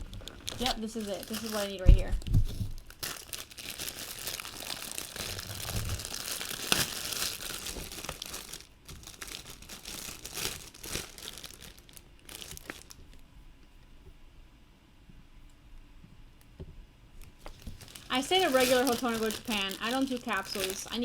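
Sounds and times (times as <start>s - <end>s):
plastic packaging crinkling: 0.0s - 13.2s, 17.2s - 21.0s.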